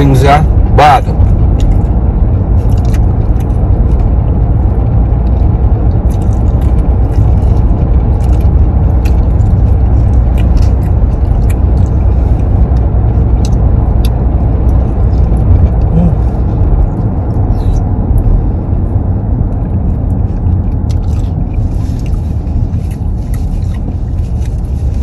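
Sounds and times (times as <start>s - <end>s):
road rumble inside car: 0.0s - 25.0s
people chewing crunchy food: 1.1s - 17.8s, 19.7s - 25.0s.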